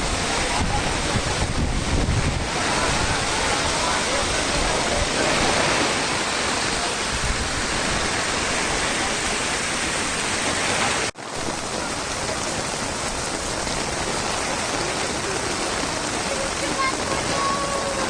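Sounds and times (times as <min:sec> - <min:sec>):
heavy rain: 0:00.0 - 0:18.0
rushing floodwater: 0:00.0 - 0:18.0.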